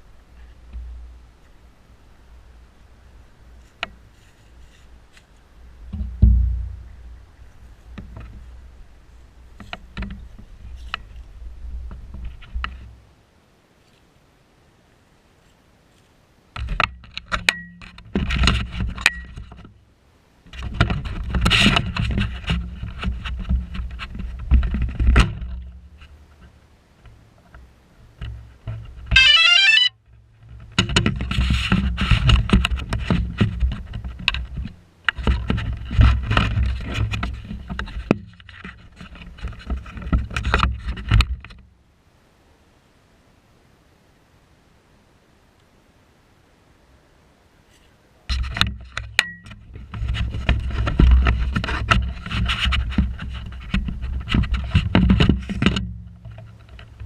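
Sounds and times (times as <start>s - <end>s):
rumbling and crackling on microphone: 0.0s - 57.0s.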